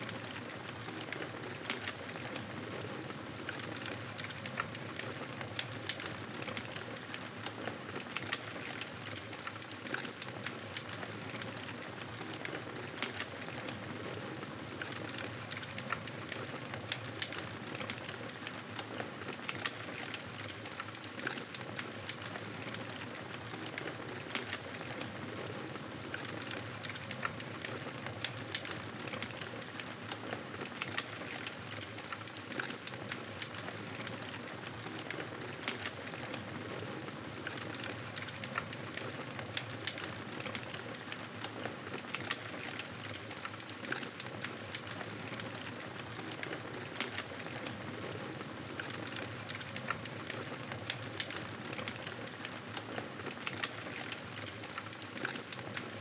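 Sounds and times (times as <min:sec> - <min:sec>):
burning wood crackling and popping: 0:00.1 - 0:56.0.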